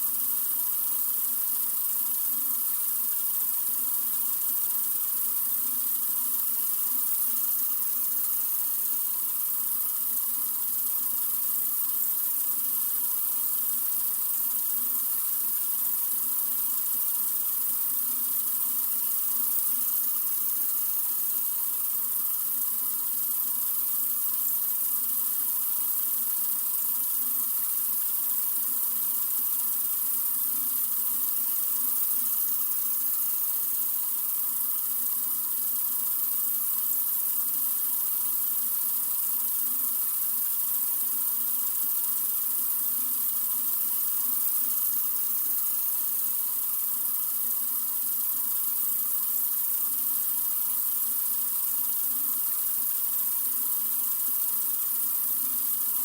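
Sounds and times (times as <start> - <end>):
sink faucet running: 0.0 - 56.0.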